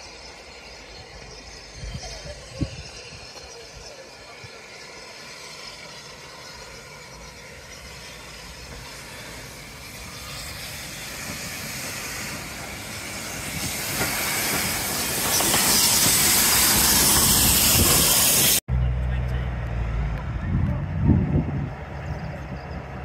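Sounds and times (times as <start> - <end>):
loud hiss of steam: 0.0 - 18.6
steam locomotive running past: 0.0 - 23.0.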